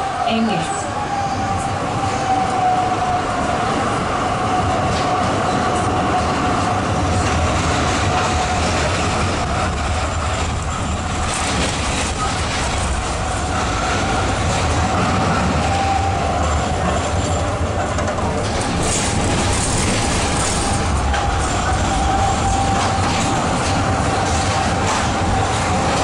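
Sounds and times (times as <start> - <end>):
steady tram whine: 0.0 - 26.0
tram wheels rumbling on rails: 0.0 - 26.0.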